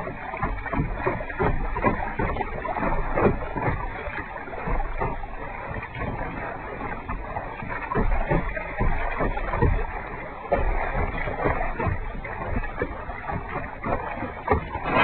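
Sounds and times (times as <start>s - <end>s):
paddle knocking on hull: 0.0s - 15.0s
paddle splashing in water: 0.0s - 15.0s.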